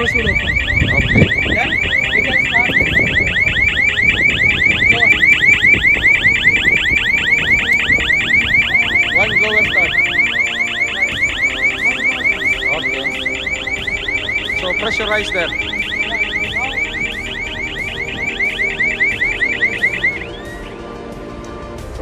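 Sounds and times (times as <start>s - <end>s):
alarm rising sweep: 0.0s - 22.0s.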